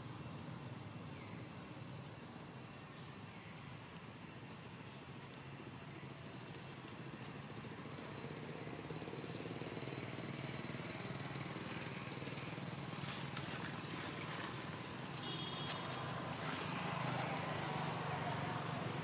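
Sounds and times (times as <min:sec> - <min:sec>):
steady engine hum: 0:00.0 - 0:19.0.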